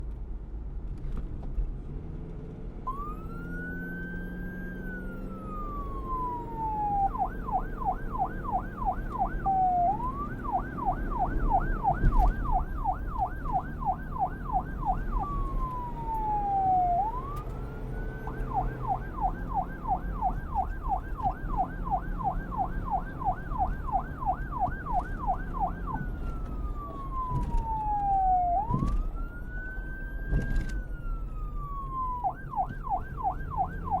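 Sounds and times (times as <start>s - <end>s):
electronic siren wailing and yelping: 2.9s - 34.0s.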